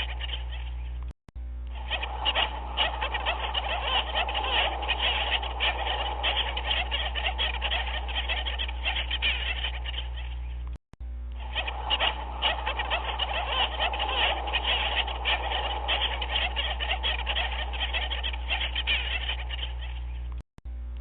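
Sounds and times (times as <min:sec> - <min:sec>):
chorus of animal calls: 0:00.0 - 0:01.0, 0:01.7 - 0:10.7, 0:11.4 - 0:20.4.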